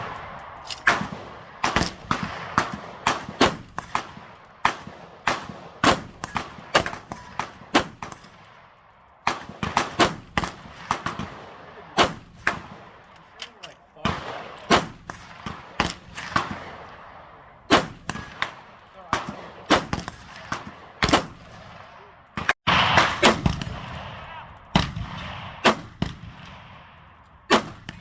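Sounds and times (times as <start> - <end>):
rifle shots with echo: 0.0 - 28.0.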